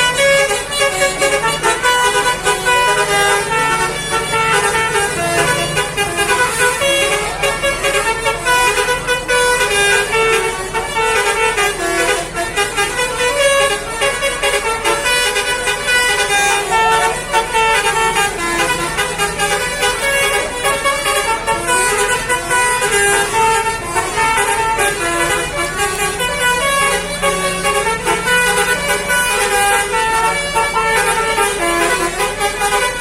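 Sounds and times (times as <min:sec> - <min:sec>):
musical bus horn tune: 0:00.0 - 0:33.0.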